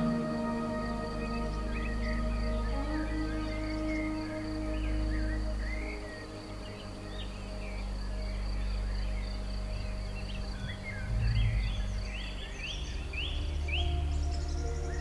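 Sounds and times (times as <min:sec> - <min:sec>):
faint high insect-like tone: 0:00.0 - 0:15.0
small birds chirping: 0:00.0 - 0:15.0
steady low hum: 0:00.0 - 0:15.0.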